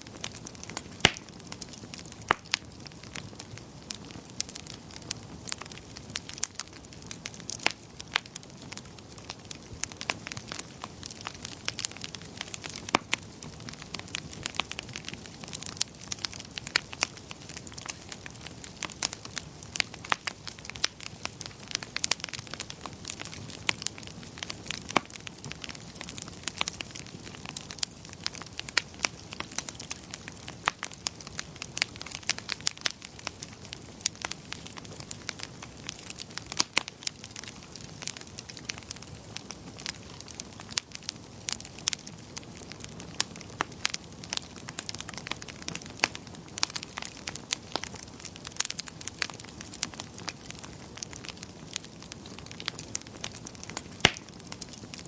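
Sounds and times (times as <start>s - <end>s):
fire popping and snapping: 0.0s - 55.0s
flames rushing: 0.1s - 55.0s.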